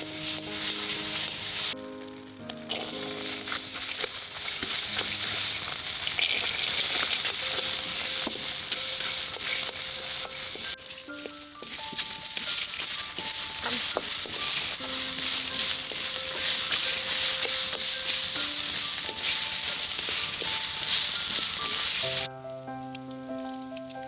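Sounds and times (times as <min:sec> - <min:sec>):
food sizzling in a frying pan: 0:00.0 - 0:22.3
soft background music: 0:00.0 - 0:24.0
utensil clicking in pan: 0:02.4 - 0:22.3.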